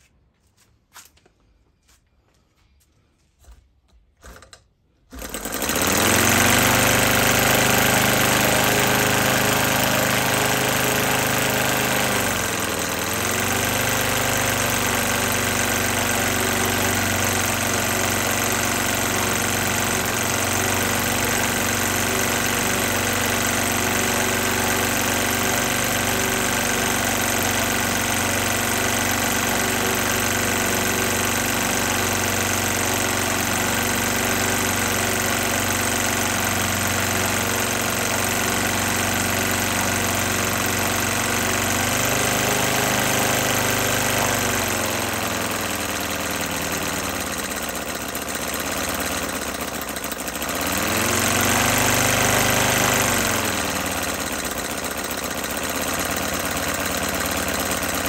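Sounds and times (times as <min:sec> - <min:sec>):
model radial engine running: 0:04.2 - 0:58.0.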